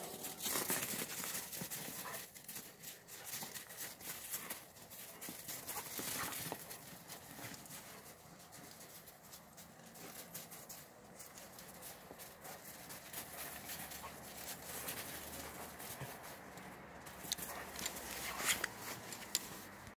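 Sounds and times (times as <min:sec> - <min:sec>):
paws and footsteps on snow: 0:00.0 - 0:20.0.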